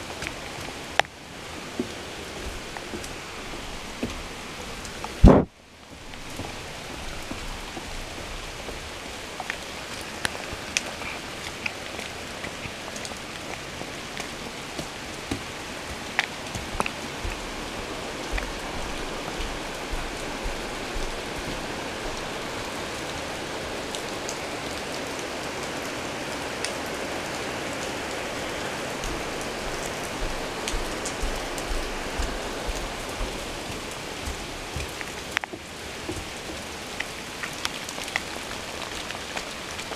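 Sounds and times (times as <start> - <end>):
raindrops tapping surfaces: 0.0 - 39.9
steady rain falling: 0.0 - 39.9.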